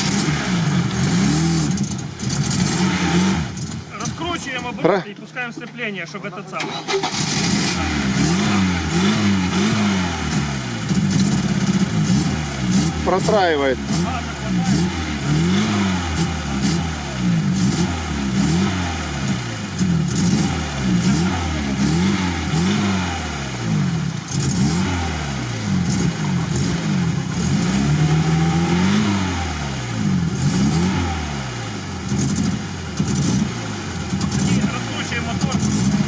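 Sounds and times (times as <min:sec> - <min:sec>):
car engine revving: 0:00.0 - 0:05.1, 0:06.5 - 0:36.0.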